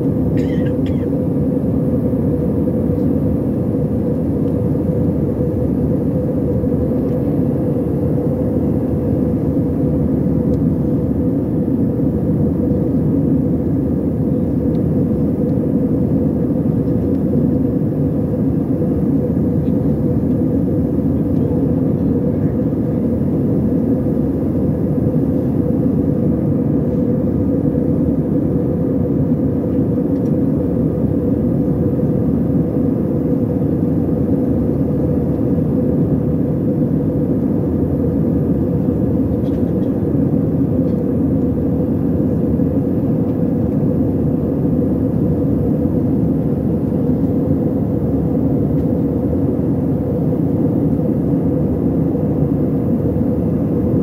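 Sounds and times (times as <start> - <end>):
airliner cabin engine noise: 0.0 - 54.0
faint steady hum: 0.0 - 54.0.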